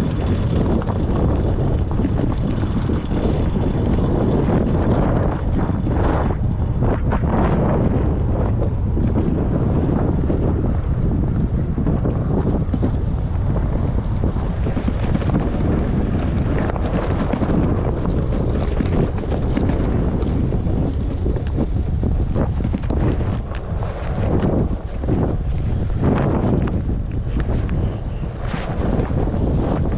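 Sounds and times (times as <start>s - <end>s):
bike rumbling over rough ground: 0.0s - 29.9s
wind buffeting microphone: 0.0s - 29.9s.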